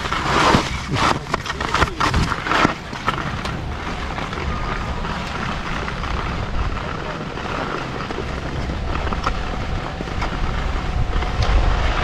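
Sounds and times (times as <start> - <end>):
skis scraping over snow: 0.0 - 12.0
wind on microphone: 0.0 - 12.0.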